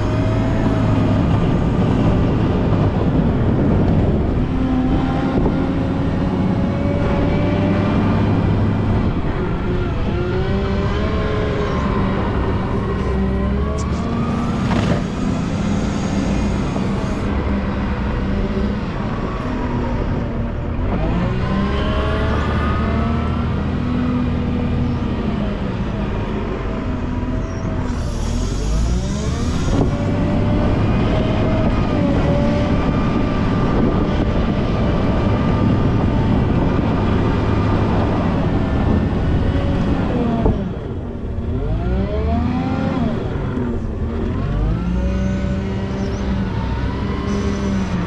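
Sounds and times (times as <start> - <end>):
wheel loader diesel engine revving: 0.0 - 48.0.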